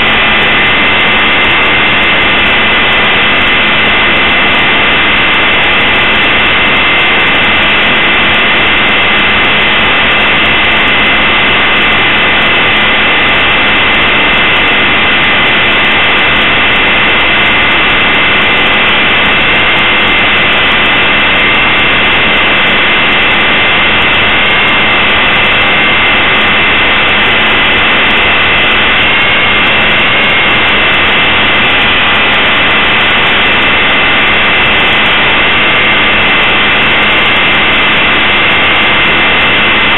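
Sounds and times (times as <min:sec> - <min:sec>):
high-pitched motor whine: 0:00.0 - 0:39.9.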